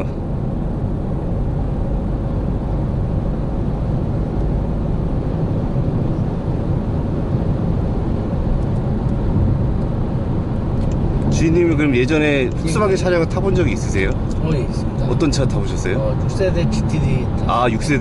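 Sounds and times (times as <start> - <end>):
road and engine rumble in car: 0.0 - 18.0.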